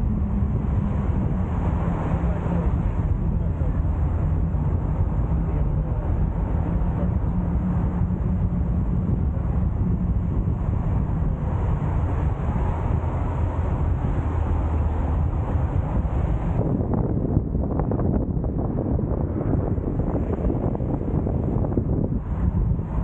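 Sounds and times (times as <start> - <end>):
car engine and road rumble: 0.0 - 23.0
wind noise on microphone: 0.0 - 23.0.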